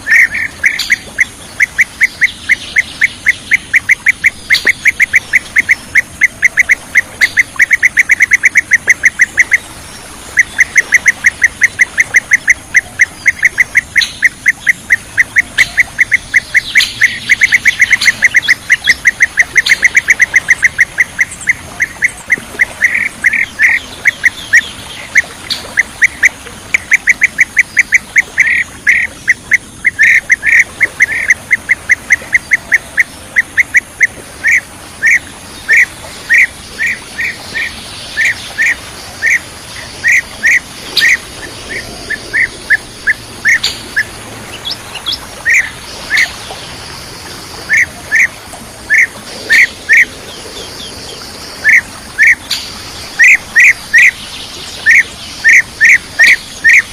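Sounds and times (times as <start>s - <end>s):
bird chirping: 0.0s - 46.7s.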